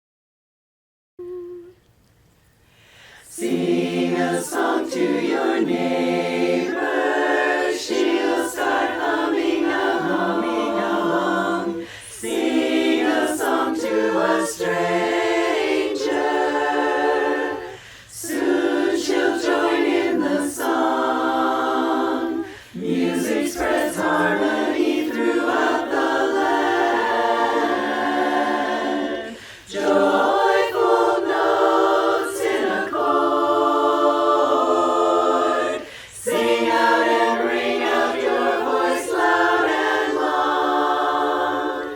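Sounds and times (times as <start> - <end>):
women singing in harmony: 3.2 - 41.9.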